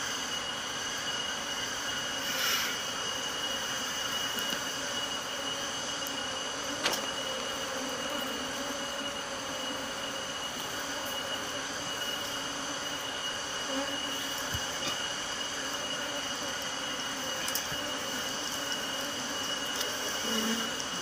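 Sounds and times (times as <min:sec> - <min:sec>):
high-pitched whine: 0:00.0 - 0:21.0
bees buzzing: 0:02.1 - 0:21.0.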